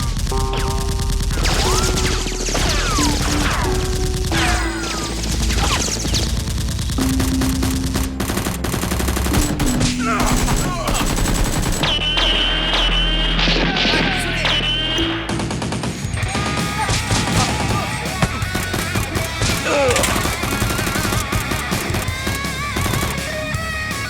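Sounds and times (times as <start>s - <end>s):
automatic gunfire: 0.0s - 14.6s, 17.0s - 23.4s
background music: 0.0s - 24.0s.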